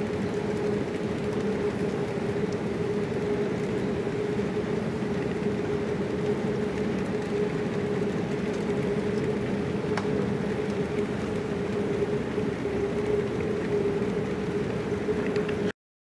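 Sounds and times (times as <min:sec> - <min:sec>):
airport terminal background hum: 0:00.0 - 0:15.7.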